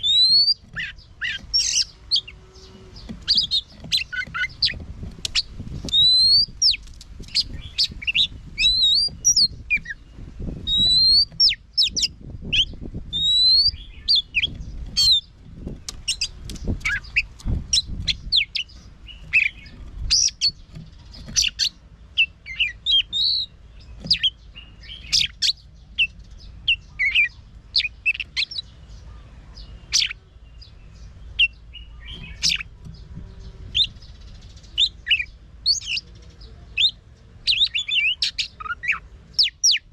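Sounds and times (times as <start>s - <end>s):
bird singing whistles and chirps: 0.0s - 15.3s, 16.0s - 29.0s, 29.6s - 39.9s.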